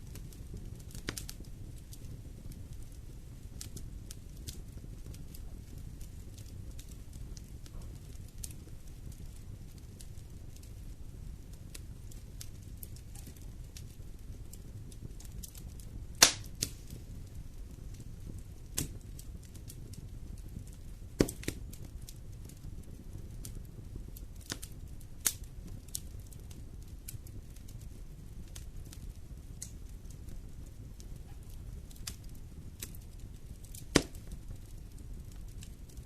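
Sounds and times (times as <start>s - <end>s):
burning logs popping: 0.0s - 36.0s
low rumble of flames: 0.0s - 36.0s
wood fire crackling: 0.0s - 36.0s.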